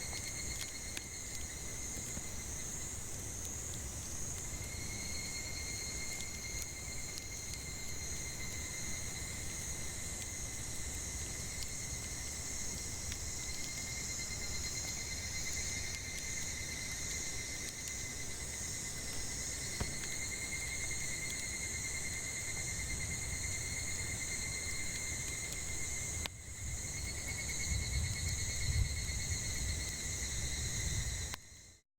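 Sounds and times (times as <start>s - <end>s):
wood fire crackling: 0.0s - 31.7s
cicadas droning: 0.0s - 31.8s.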